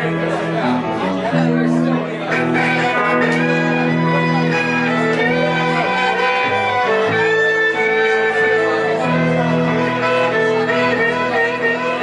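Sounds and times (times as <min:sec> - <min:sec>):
electric guitar: 0:00.0 - 0:12.0
fiddle melody: 0:00.0 - 0:12.0
upright bass: 0:00.0 - 0:12.0.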